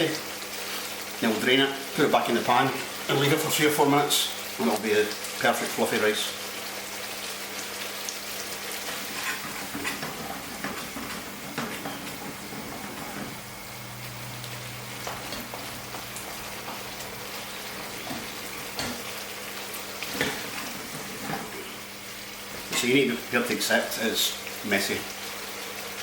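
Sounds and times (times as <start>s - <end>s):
sauce sizzling in a pan: 0.0s - 26.0s.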